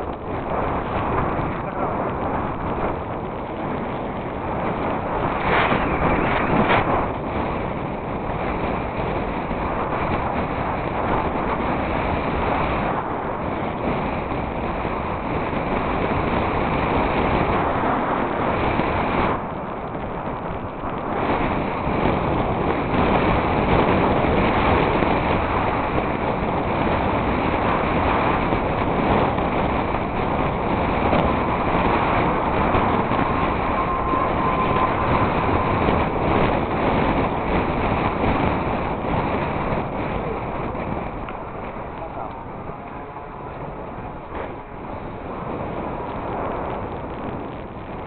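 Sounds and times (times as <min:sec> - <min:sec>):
bike tyre noise: 0:00.0 - 0:48.0
wind rushing over microphone: 0:00.0 - 0:48.0.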